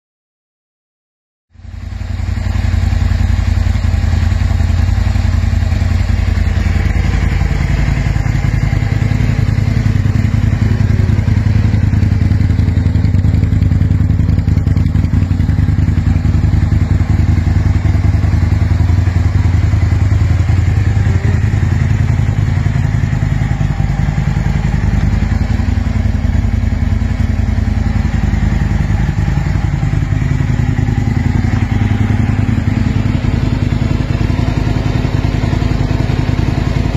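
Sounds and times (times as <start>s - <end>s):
motorcycle engine idling: 1.6s - 36.9s.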